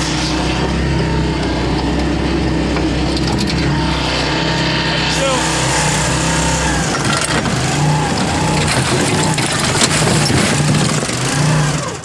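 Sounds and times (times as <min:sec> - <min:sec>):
boat engine throbbing: 0:00.0 - 0:12.0.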